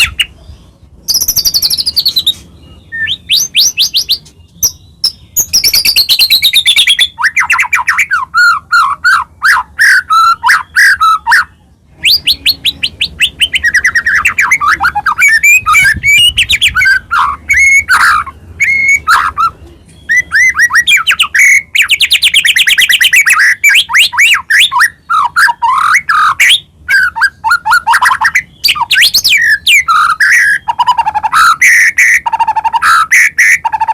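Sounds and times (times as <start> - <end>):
songbird whistling and trilling: 0.0 - 33.9.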